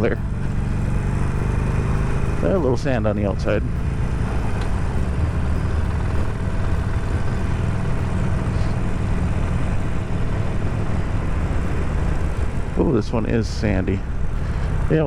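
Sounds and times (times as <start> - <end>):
motorcycle engine running: 0.0 - 15.0
wind and road rush: 0.0 - 15.0.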